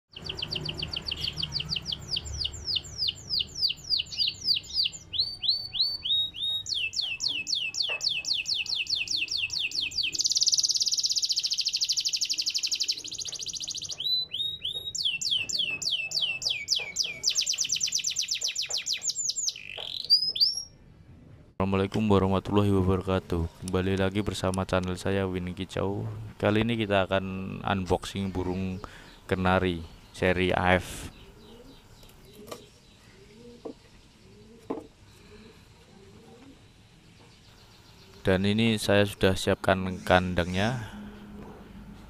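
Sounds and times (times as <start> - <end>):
canary singing: 0.1 - 20.8, 26.3 - 42.0.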